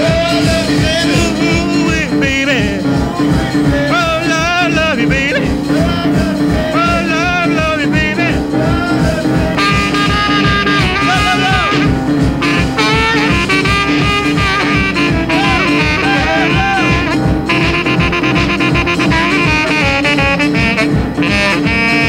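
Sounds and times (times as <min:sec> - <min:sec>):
music with steady beat: 0:00.0 - 0:22.0.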